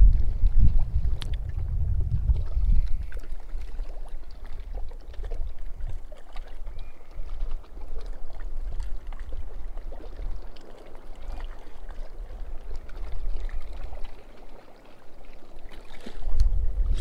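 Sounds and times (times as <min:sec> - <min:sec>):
wind rumble on microphone: 0:00.0 - 0:14.2, 0:16.0 - 0:17.0
water lapping against boat hull: 0:00.0 - 0:17.0.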